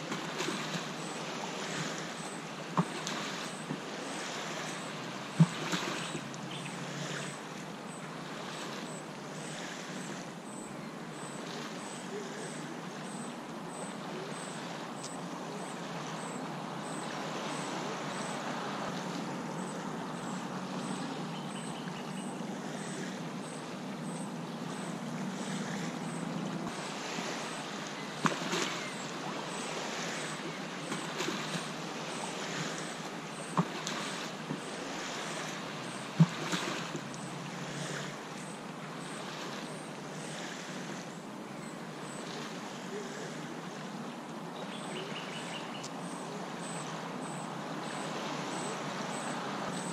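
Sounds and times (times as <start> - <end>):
waves lapping on beach: 0.0 - 49.9.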